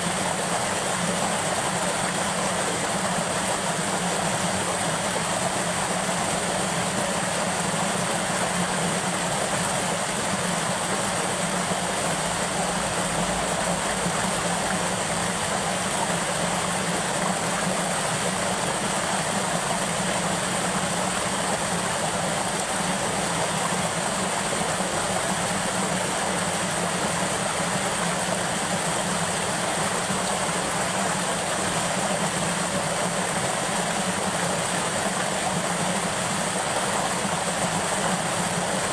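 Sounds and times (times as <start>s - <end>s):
water rushing down spillway: 0.0s - 38.9s.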